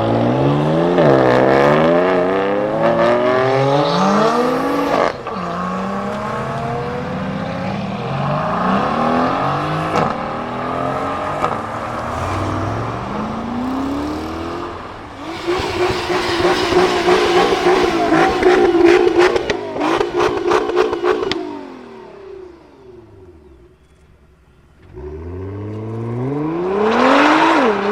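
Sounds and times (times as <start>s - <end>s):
engine holding high revs: 0.0s - 23.9s
car engines accelerating: 0.0s - 27.9s
exhaust cracks: 1.0s - 26.1s.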